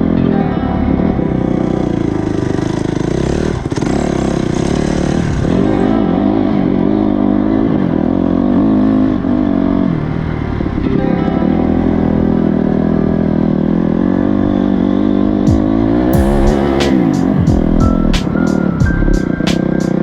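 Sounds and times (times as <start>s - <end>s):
motorcycle engine revving: 1.5s - 10.6s, 12.6s - 20.0s.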